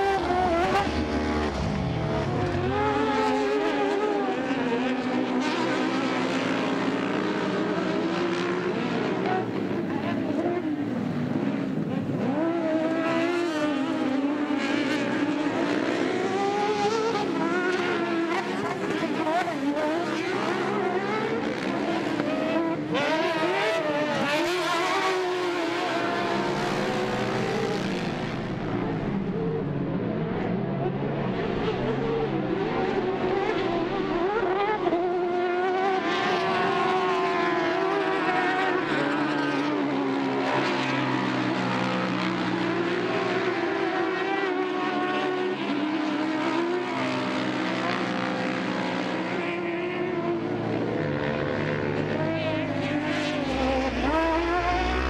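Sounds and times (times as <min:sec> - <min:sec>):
racing engines revving: 0:00.0 - 0:55.0.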